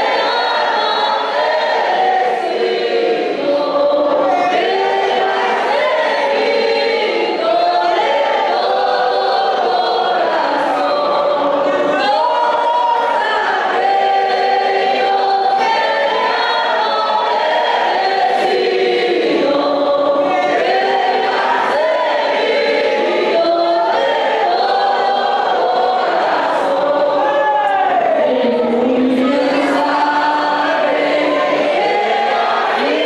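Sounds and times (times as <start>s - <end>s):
congregation singing a hymn: 0.0s - 33.0s.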